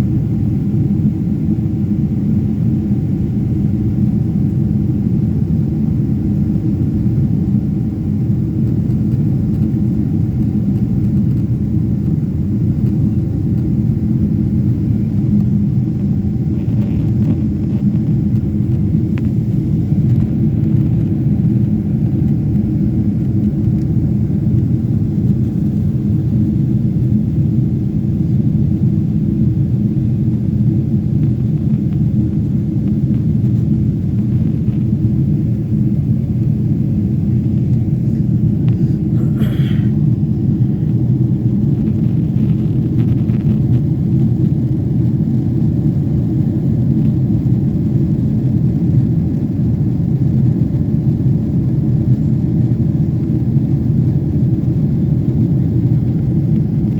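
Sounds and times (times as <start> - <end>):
jet engine cabin rumble: 0.0 - 56.9.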